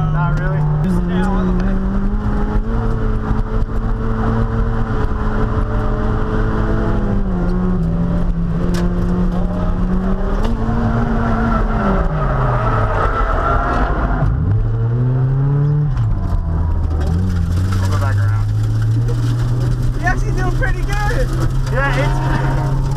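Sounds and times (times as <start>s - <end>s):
car engine revving high: 0.0s - 22.9s.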